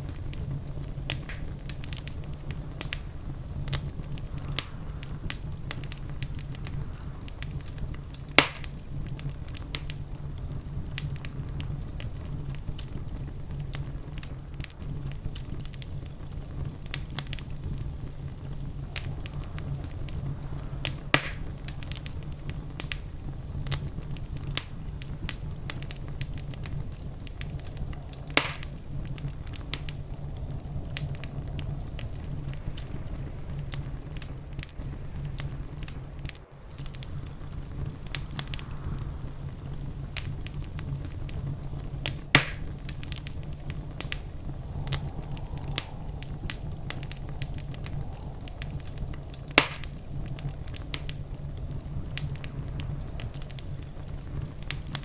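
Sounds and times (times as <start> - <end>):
loud fire pops: 0.0 - 55.0
wood fire crackling: 0.0 - 55.0.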